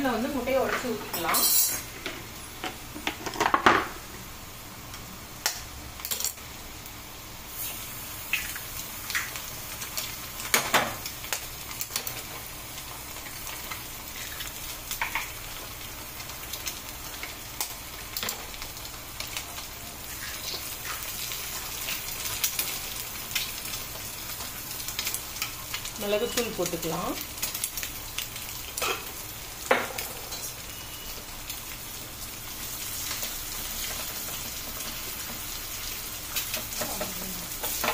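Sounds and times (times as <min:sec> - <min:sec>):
onions sizzling in pan: 0:00.0 - 0:37.9.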